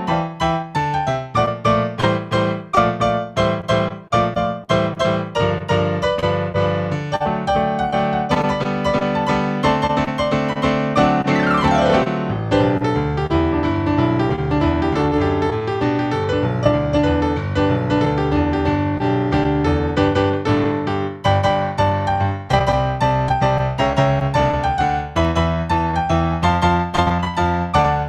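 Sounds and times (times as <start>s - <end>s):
fast piano music: 0.0s - 28.0s.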